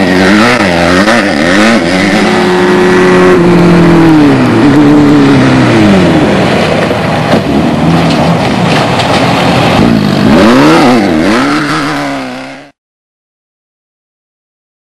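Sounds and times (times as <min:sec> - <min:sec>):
loud rushing noise: 0:00.0 - 0:12.5
race vehicle engine running hard: 0:00.0 - 0:12.8.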